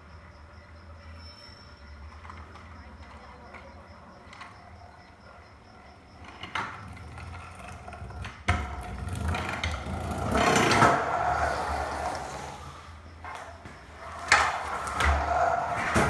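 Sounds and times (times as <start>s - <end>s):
scooter wheels rolling on concrete: 0.7s - 16.0s.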